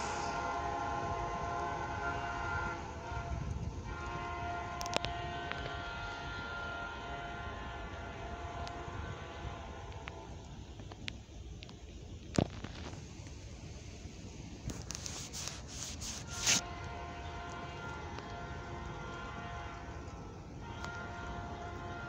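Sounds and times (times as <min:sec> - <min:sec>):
locomotive air horn blasts: 0:00.0 - 0:10.6, 0:14.7 - 0:22.0.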